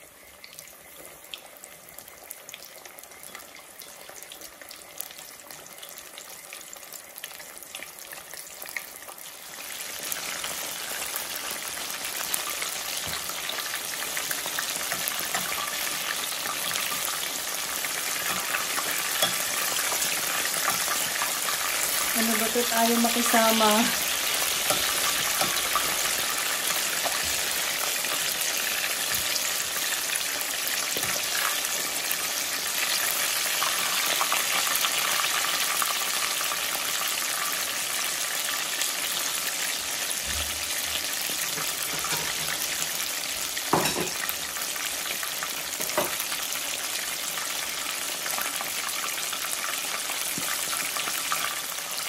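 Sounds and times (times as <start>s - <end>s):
chicken wings deep-frying in oil: 0.0s - 52.0s.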